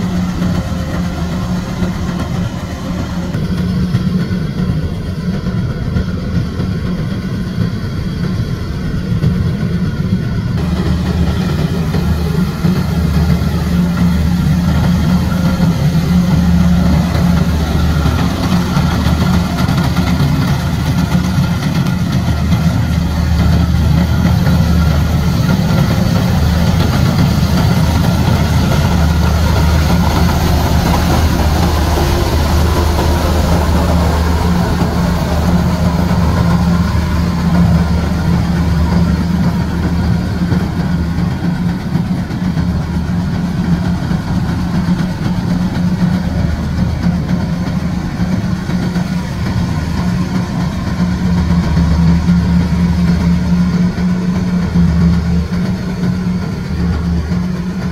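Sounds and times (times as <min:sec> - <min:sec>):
combine harvester diesel engine drone: 0:00.0 - 0:57.9
machinery noise: 0:00.0 - 0:57.9.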